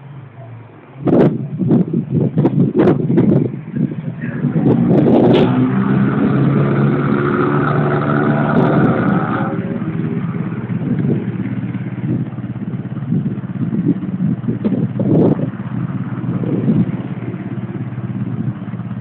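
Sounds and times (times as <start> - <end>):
motorcycle engine running: 1.0 - 19.0.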